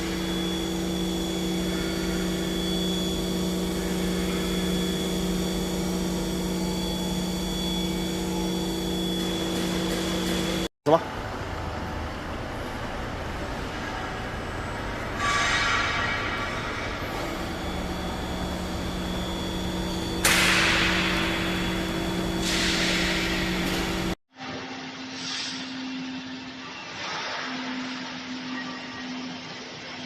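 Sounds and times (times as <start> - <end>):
machining centre humming: 0.0 - 24.2.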